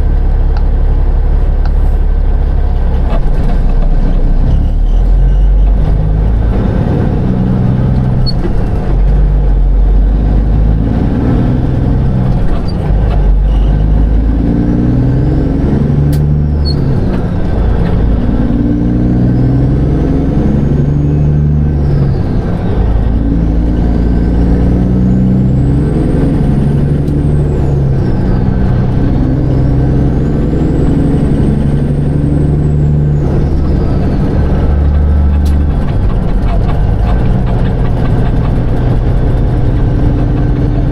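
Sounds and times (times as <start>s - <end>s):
truck diesel engine driving: 0.0s - 40.9s.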